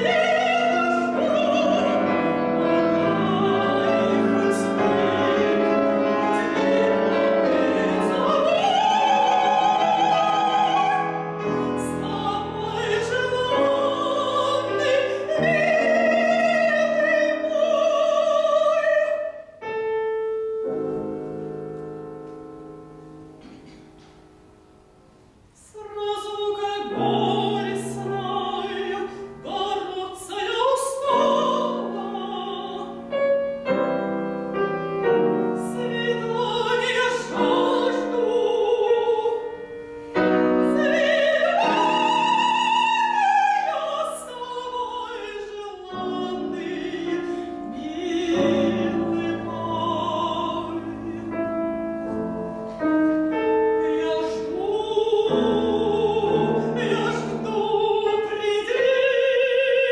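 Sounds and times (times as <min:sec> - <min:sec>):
soprano singing opera: 0:00.0 - 0:19.7, 0:25.6 - 0:59.9
grand piano chords: 0:00.0 - 0:59.9.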